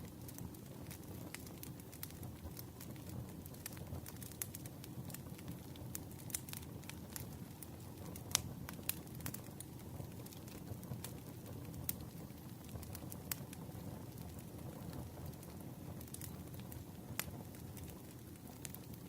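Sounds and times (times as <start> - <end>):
low rumble of flames: 0.0 - 19.0
burning wood popping and snapping: 0.1 - 19.0.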